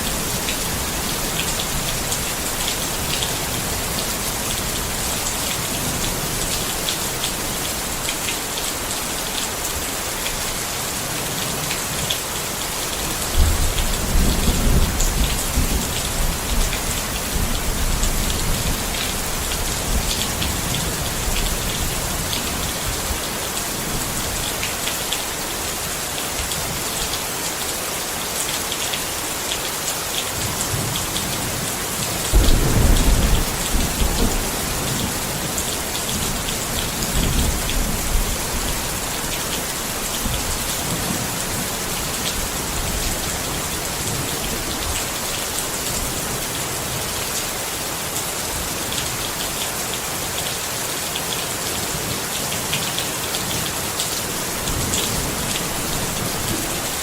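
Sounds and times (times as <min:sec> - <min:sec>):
rain falling on a tent: 0:00.0 - 0:57.0.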